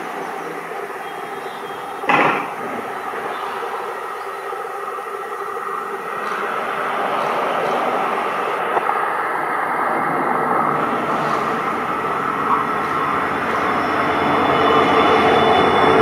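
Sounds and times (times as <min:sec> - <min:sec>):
diesel locomotive engine: 0:00.0 - 0:16.0
train wheels on rail: 0:00.0 - 0:16.0.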